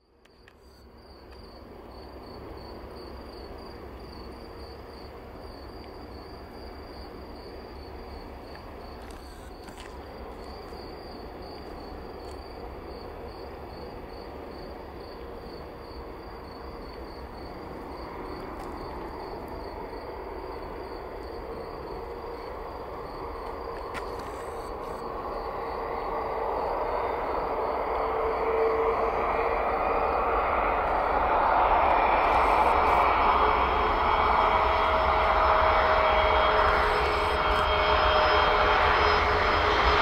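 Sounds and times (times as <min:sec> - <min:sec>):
cricket chirping: 0:00.0 - 0:40.0
jet engines rushing: 0:07.8 - 0:40.0.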